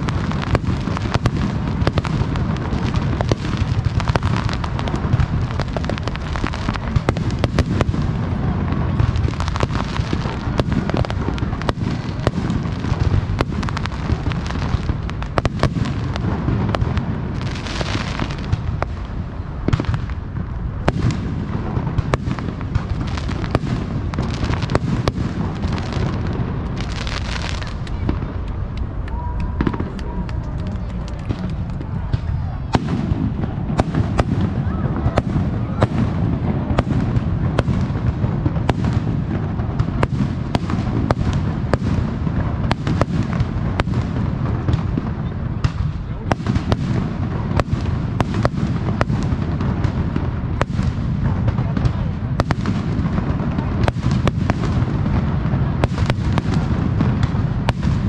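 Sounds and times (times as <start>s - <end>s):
continuous low rumble: 0.0s - 58.0s
crackling hiss: 0.0s - 58.0s.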